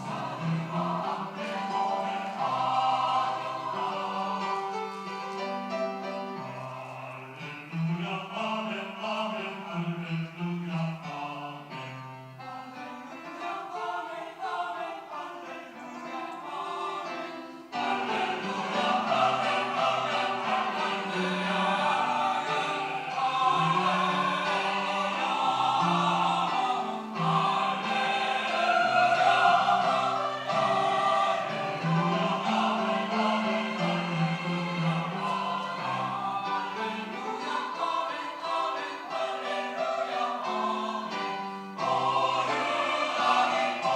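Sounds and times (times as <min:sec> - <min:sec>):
choir singing: 0:00.0 - 0:43.9.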